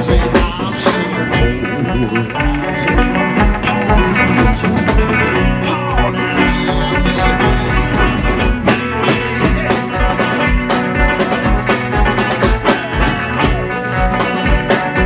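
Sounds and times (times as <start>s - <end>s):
guitar: 0.0s - 15.0s
live band playing instrumental: 0.0s - 15.0s
low kick-drum beat: 0.0s - 15.0s.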